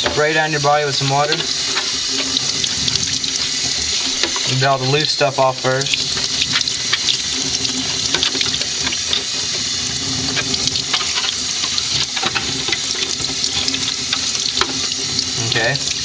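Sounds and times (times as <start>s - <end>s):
tap water running: 0.0s - 16.0s
water splashing on plastic: 0.0s - 16.0s.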